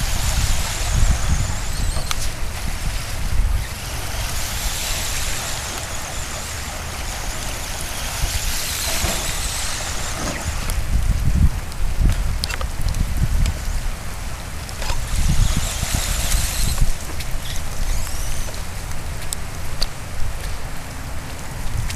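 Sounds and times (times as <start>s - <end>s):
heavy rain falling: 0.0s - 21.7s.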